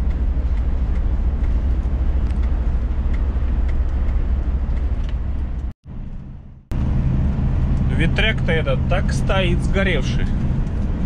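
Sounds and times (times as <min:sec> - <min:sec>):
heavy truck engine drone: 0:00.0 - 0:11.0
tyres on wet highway: 0:00.0 - 0:11.0.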